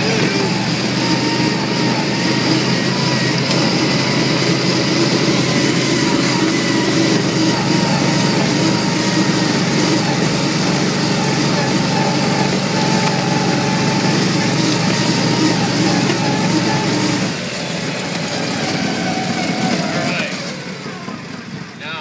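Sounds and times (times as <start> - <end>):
amphibious vehicle engine running: 0.0 - 22.0.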